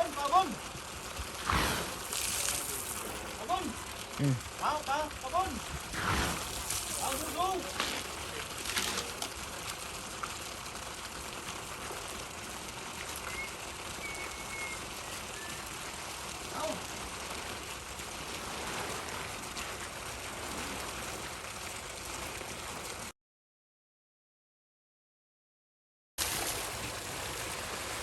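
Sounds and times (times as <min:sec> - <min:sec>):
running water hiss: 0:00.0 - 0:23.0, 0:26.2 - 0:28.0.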